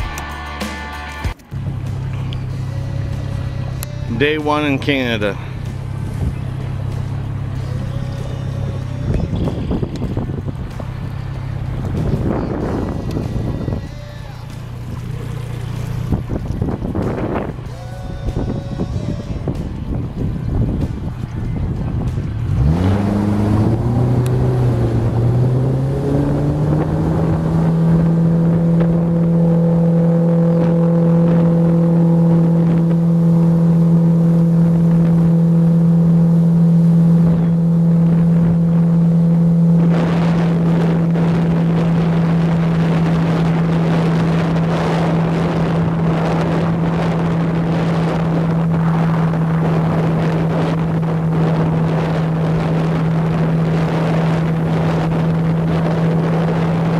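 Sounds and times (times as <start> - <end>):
outboard motor running: 1.4 - 56.9
wind buffeting microphone: 4.2 - 56.9.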